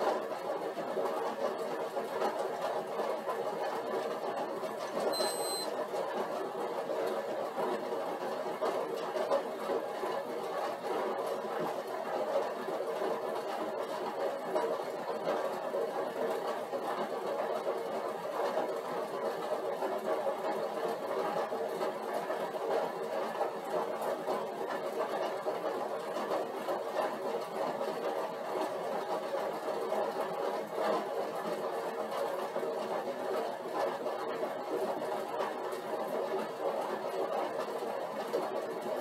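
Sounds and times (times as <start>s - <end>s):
exercise bike whirring: 5.1s - 39.0s.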